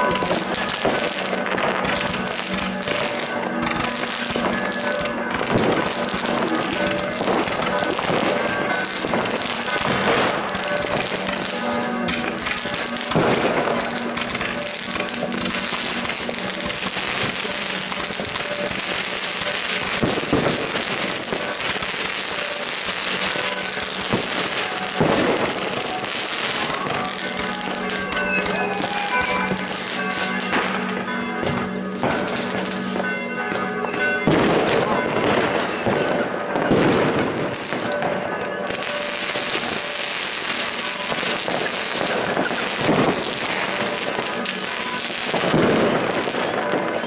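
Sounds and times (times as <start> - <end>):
fireworks crackling and popping: 0.0 - 47.0
fireworks loud bangs: 0.0 - 47.0.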